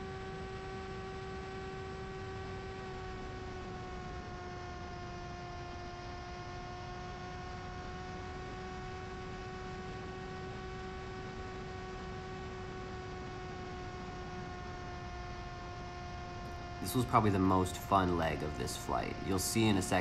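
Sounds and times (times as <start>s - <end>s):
electric motor and propeller drone: 0.0s - 20.0s.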